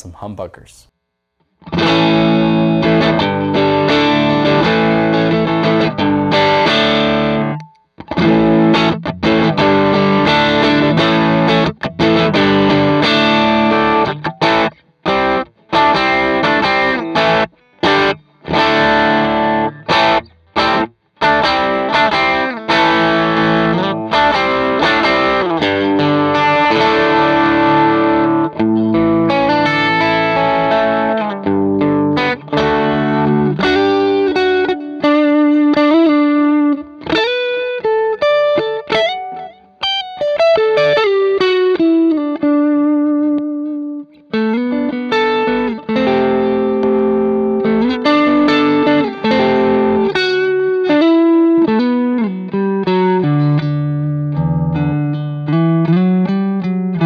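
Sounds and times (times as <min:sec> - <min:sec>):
electric guitar playing: 0:01.6 - 0:57.0.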